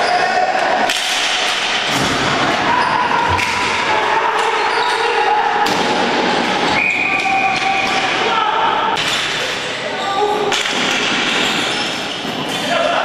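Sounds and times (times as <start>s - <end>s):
people shouting: 0.0s - 10.6s.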